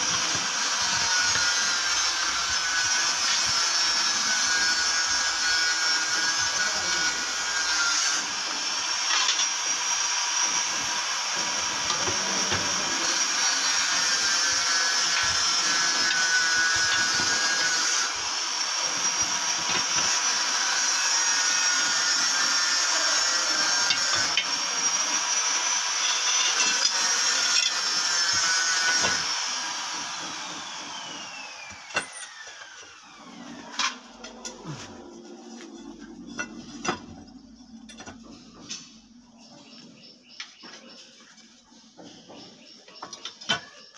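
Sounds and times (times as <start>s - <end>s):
power tool motor whining: 0.0s - 40.7s.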